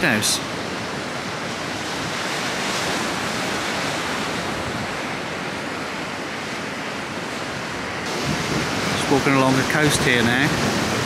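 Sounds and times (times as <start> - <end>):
surf breaking on rocks: 0.0 - 11.0.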